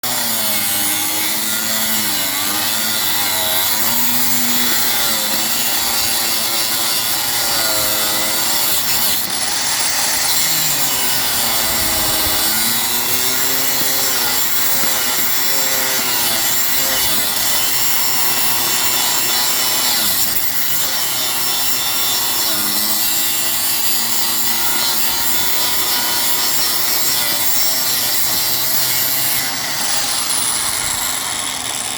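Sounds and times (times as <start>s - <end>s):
angle grinder cutting metal: 0.0s - 31.9s.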